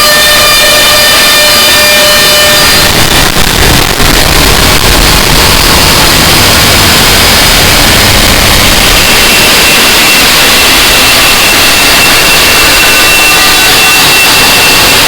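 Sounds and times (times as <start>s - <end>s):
distorted static noise music: 0.0s - 15.0s.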